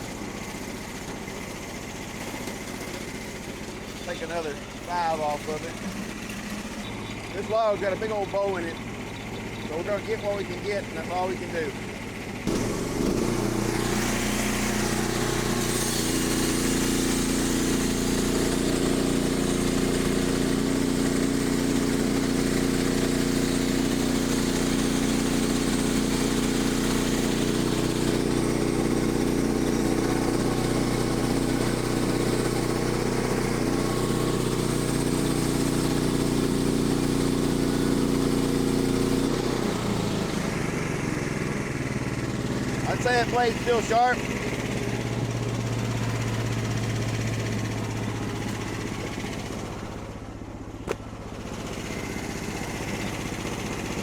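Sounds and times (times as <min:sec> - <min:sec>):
band saw cutting log: 0:00.0 - 0:50.2, 0:50.8 - 0:54.0
sawmill engine running: 0:00.0 - 0:54.0.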